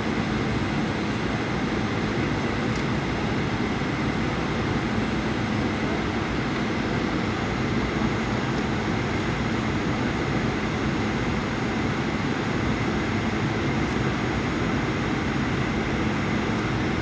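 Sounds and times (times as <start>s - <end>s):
jet engines humming: 0.0s - 17.0s
rushing airflow in cabin: 0.0s - 17.0s.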